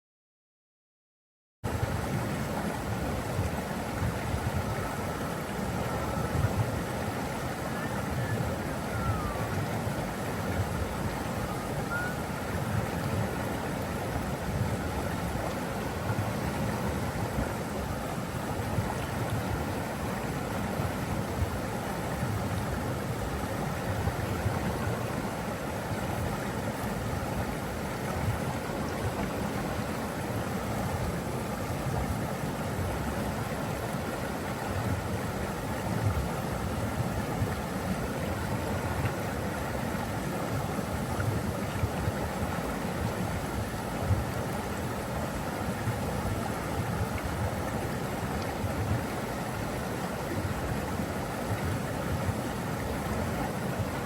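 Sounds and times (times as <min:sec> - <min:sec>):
water rushing: 0:01.7 - 0:54.0.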